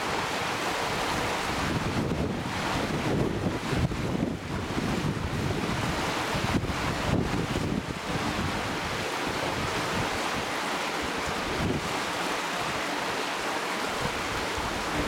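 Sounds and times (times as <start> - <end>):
wind buffeting microphone: 0.0 - 12.8, 13.8 - 15.0
river water rushing: 0.0 - 15.0.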